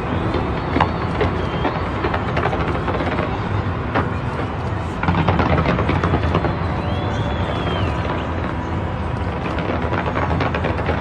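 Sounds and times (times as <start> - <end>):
fireworks booming: 0.0 - 11.0
fireworks cracking: 0.0 - 11.0.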